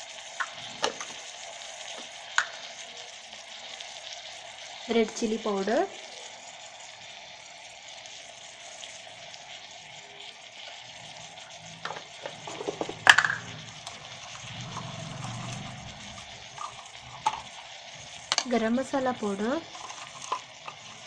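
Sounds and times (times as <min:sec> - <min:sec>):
onions and tomatoes sizzling in oil: 0:00.0 - 0:21.0.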